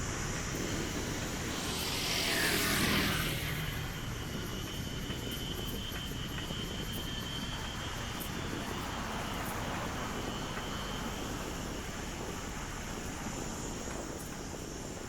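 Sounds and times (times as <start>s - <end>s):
street traffic noise: 0.0s - 15.0s
wind rumble on microphone: 0.0s - 15.0s.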